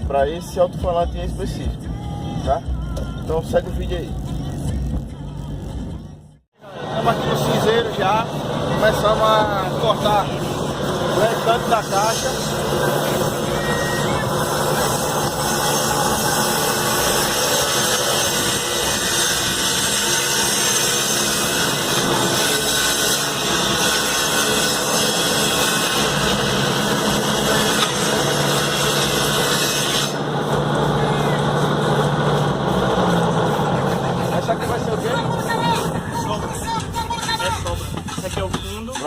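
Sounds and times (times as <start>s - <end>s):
power saw cutting wood: 6.6s - 39.0s.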